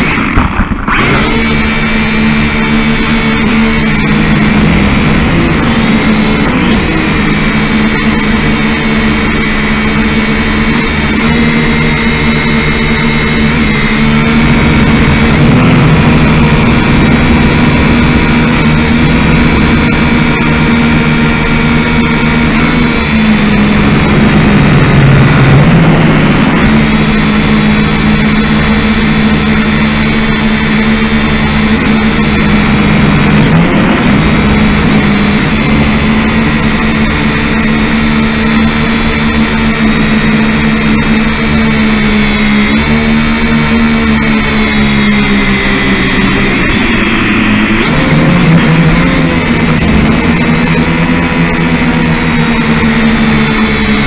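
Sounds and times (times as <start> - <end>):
quadcopter propellers whining: 0.0 - 54.0.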